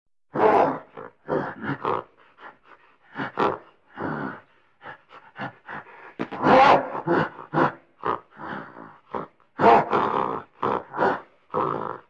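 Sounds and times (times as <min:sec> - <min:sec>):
gorilla grunting: 0:00.3 - 0:12.0.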